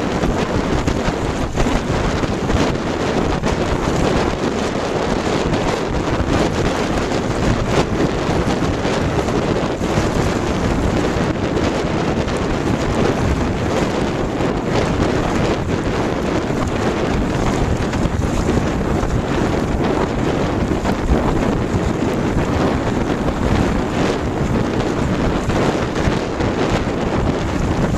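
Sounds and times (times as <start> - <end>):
water rushing along hull: 0.0 - 27.9
wind buffeting microphone: 0.0 - 27.9.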